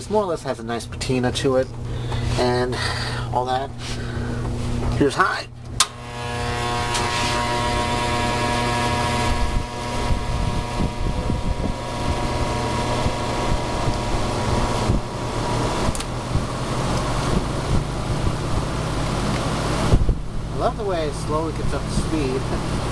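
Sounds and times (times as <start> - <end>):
fan motor buzzing and humming: 0.0 - 22.9.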